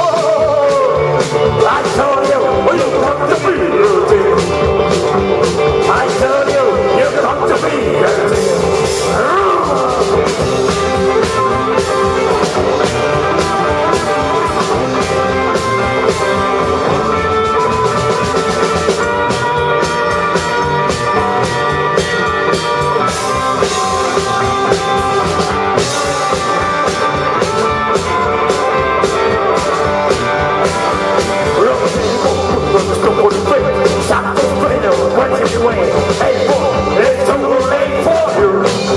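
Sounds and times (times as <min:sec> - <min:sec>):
drum kit beat: 0:00.0 - 0:38.9
electric bass: 0:00.0 - 0:38.9
electric guitars: 0:00.0 - 0:38.9.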